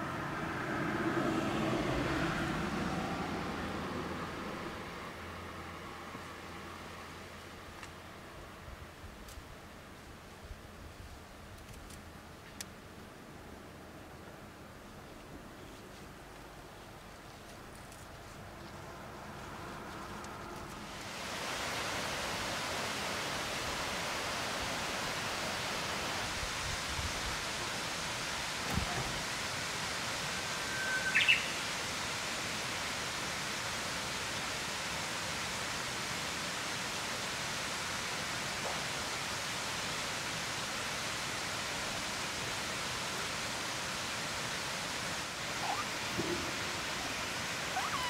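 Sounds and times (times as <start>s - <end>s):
stream rushing: 0.0s - 10.8s, 15.8s - 48.0s.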